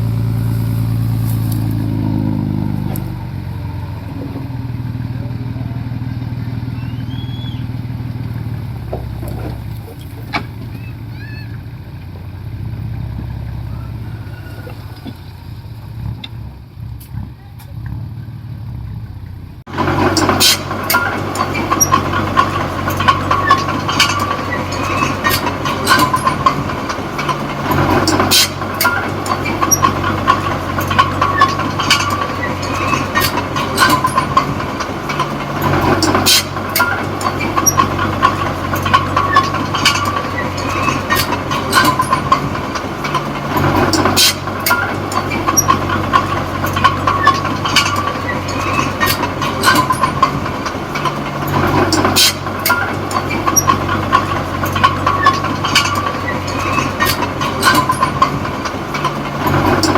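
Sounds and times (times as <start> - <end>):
bulldozer diesel engine running: 0.0 - 59.9
steel tracks clanking: 0.0 - 59.9.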